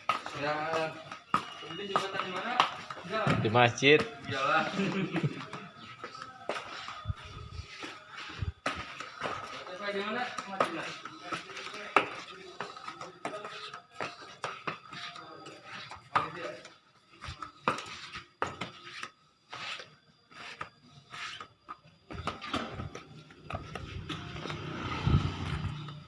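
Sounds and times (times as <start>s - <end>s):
footsteps on hard floor: 0.0s - 26.0s.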